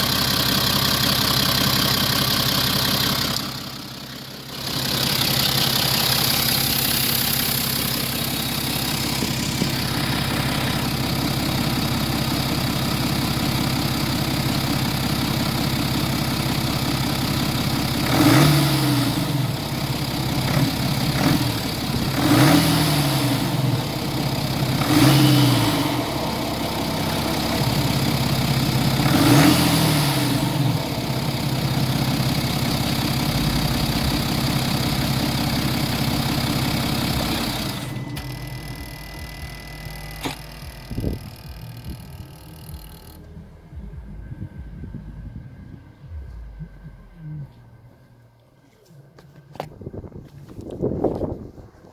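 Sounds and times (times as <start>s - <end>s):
diesel engine idling: 0.0s - 48.7s
engine revving: 4.5s - 48.1s.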